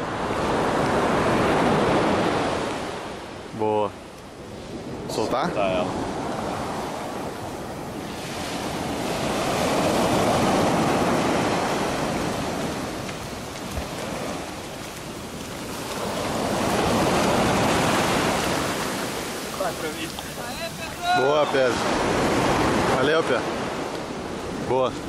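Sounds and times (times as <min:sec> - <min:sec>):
waves washing up a beach: 0:00.0 - 0:25.0.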